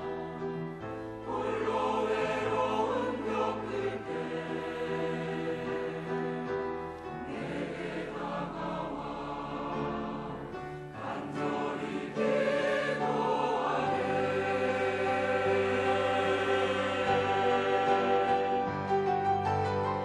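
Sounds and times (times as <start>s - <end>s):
church choir singing: 0.0s - 20.0s.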